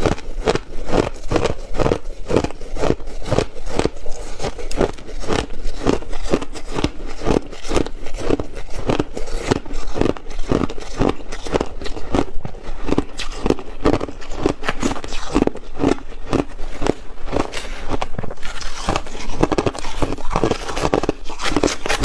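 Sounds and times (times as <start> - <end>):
ice crunching being chewed: 0.0 - 22.0.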